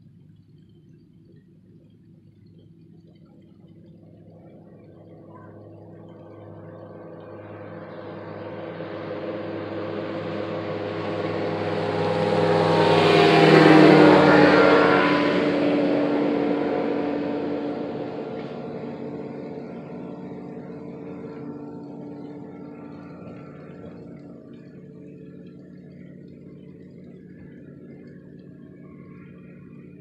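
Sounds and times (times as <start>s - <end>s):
motor vehicle passing by: 4.3s - 30.0s.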